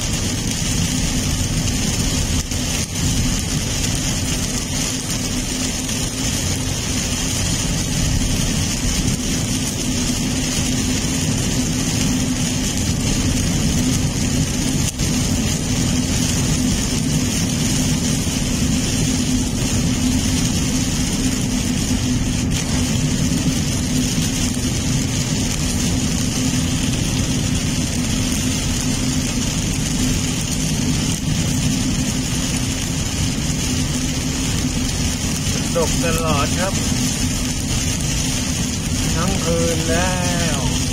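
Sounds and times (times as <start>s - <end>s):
car engine and tyres on wet road: 0.0s - 40.9s
heavy rain on car: 0.0s - 40.9s.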